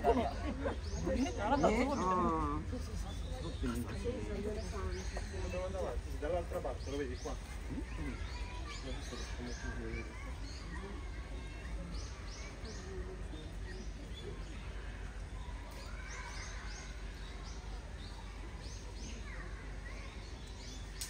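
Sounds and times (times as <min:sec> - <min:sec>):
faint distant voices: 0:00.0 - 0:21.0.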